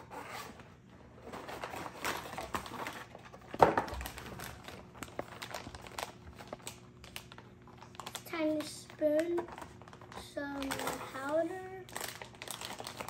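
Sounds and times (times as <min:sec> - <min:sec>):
plastic bags crinkling: 0:01.2 - 0:13.0.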